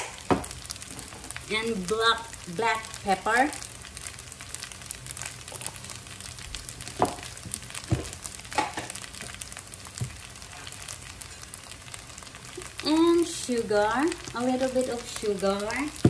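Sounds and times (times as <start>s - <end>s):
rice and onion sizzling in pan: 0.0s - 16.0s.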